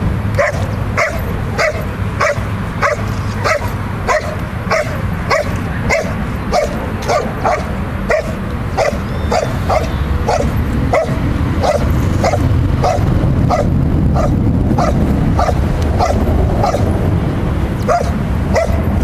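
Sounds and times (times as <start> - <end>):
dog barking sharply: 0.4 - 16.9, 17.9 - 18.8.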